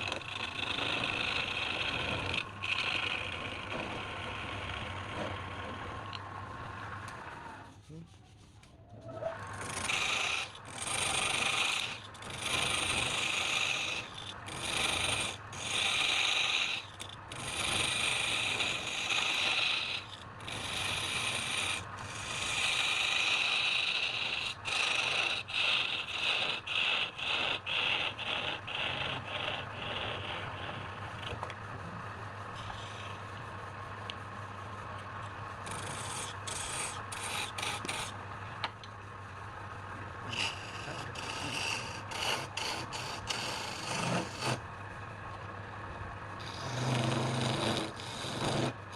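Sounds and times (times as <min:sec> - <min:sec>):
wood lathe humming: 0:00.0 - 0:07.8, 0:09.5 - 0:48.9
tool scraping spinning wood: 0:00.0 - 0:48.9.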